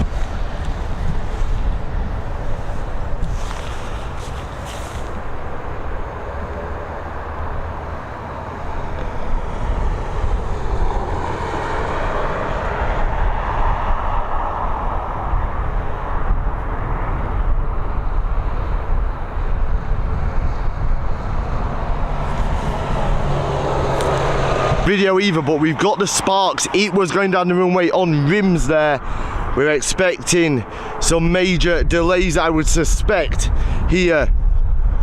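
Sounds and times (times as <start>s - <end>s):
airliner engines rushing: 0.0s - 35.0s.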